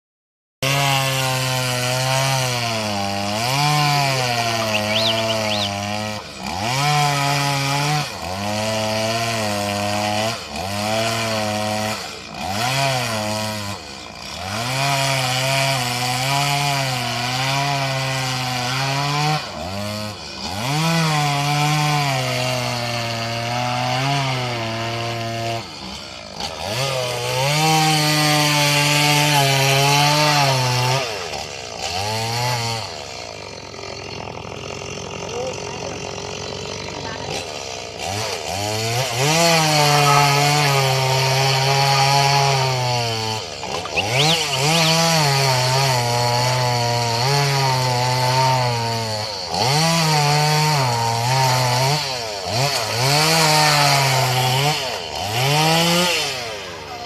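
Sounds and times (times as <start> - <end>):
chainsaw cutting wood: 0.6 - 57.0.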